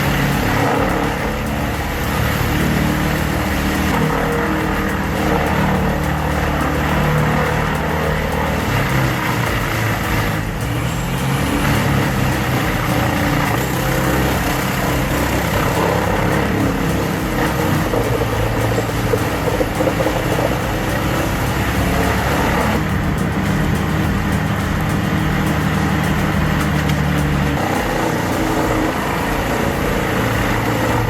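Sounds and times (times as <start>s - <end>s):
heavy machinery engine running: 0.0s - 31.0s.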